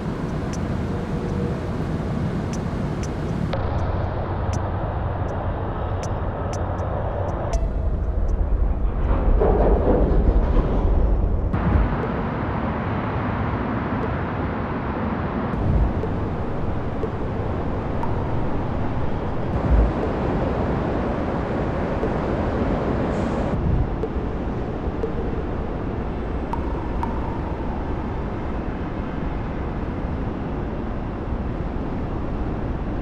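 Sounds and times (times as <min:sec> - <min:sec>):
distant traffic rumble: 0:00.0 - 0:10.0, 0:15.6 - 0:33.0.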